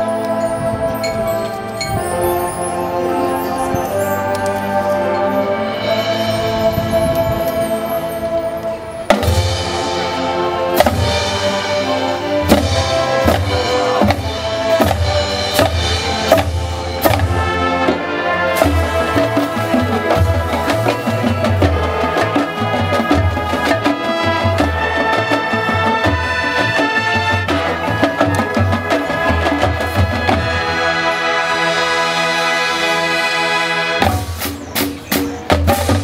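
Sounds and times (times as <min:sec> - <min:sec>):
marching band playing: 0:00.0 - 0:36.0.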